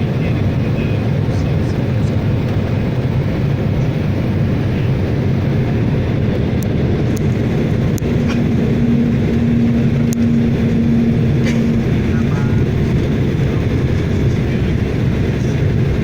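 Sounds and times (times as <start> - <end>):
higher hum: 0.0 - 16.0
propeller aircraft engine droning: 0.0 - 16.0.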